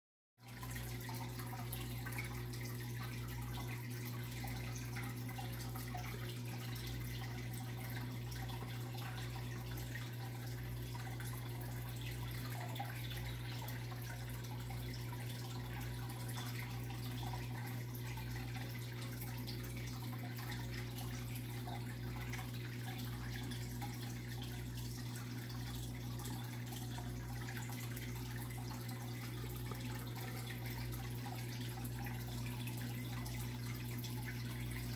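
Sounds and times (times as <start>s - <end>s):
pump humming: 0.4s - 34.9s
water bubbling and trickling: 0.4s - 34.9s.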